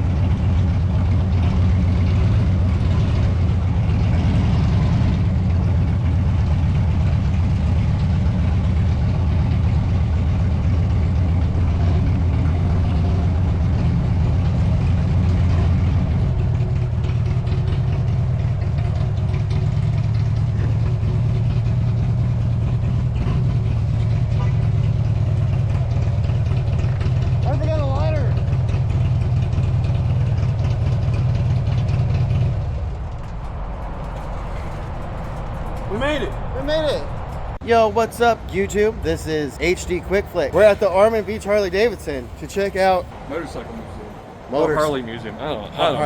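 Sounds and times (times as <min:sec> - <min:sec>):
vehicle engine droning: 0:00.0 - 0:46.0.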